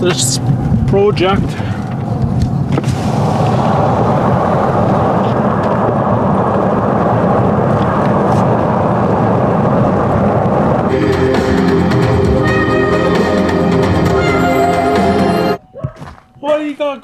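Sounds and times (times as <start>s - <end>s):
vehicle engine and road noise: 0.0s - 15.6s.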